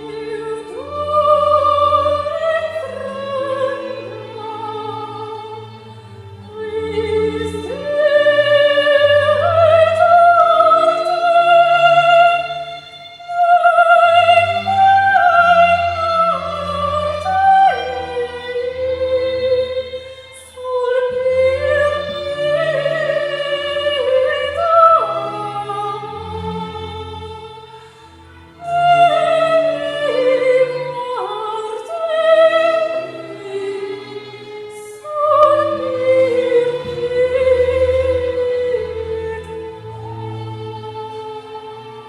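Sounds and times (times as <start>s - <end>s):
operatic singing with vibrato: 0.0s - 42.0s.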